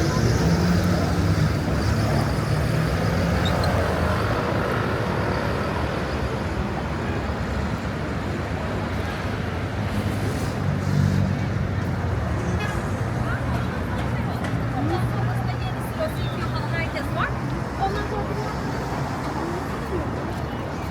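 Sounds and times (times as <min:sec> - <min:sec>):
street traffic noise: 0:00.0 - 0:20.9.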